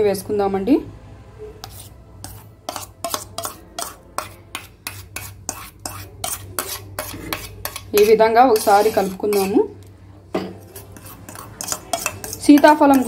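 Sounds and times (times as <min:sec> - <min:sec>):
spatula scraping steel bowl: 0:01.6 - 0:09.8, 0:10.6 - 0:13.0.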